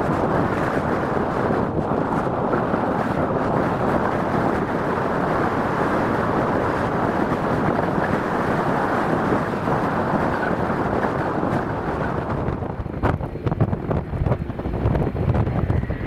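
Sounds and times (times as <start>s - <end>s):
jet engines rushing: 0.0s - 16.0s
wind buffeting microphone: 0.0s - 16.0s.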